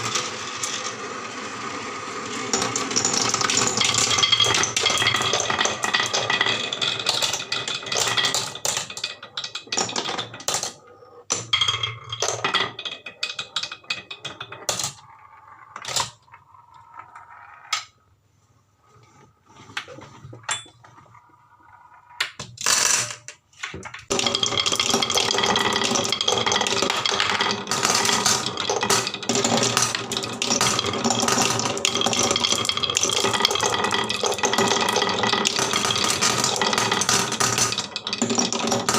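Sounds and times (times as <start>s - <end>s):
marbles clattering down wooden run: 0.0s - 17.9s, 22.4s - 23.4s, 24.0s - 38.9s.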